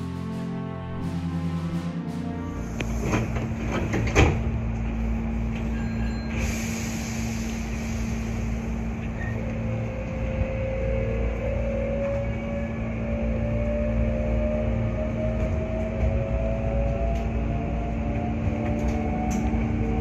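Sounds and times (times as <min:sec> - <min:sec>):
train electrical hum: 0:00.0 - 0:20.0.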